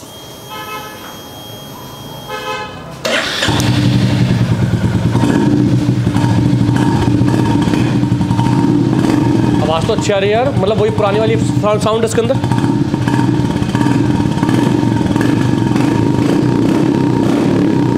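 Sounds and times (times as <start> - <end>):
motorcycle engine cranking: 3.0 - 17.8
motorcycle engine idling: 3.4 - 17.9.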